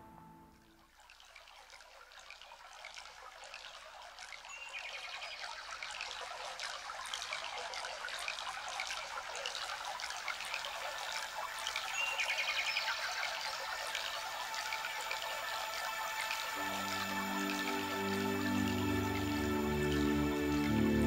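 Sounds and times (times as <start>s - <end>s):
water trickling: 0.4s - 21.0s.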